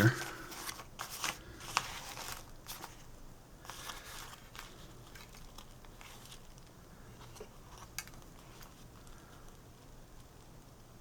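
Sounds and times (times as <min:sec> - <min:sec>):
paper rustling: 0:00.0 - 0:09.5
low steady hum: 0:00.0 - 0:11.0.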